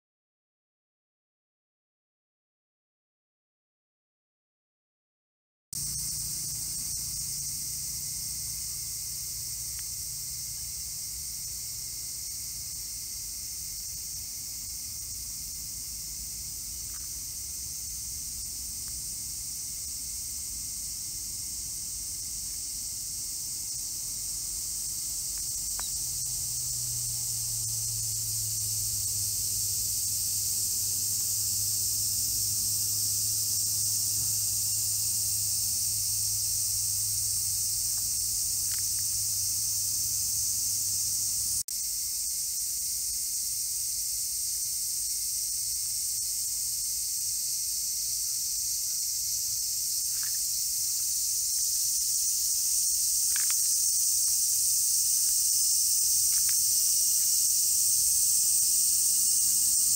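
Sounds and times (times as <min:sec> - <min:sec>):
insect chorus buzzing: 0:05.8 - 0:59.9.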